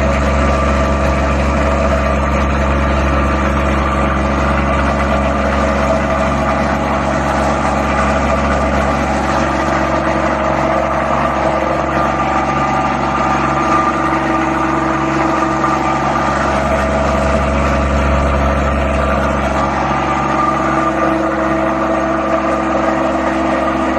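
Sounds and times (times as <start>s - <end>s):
machine hum with whining grinding: 0.0s - 23.9s.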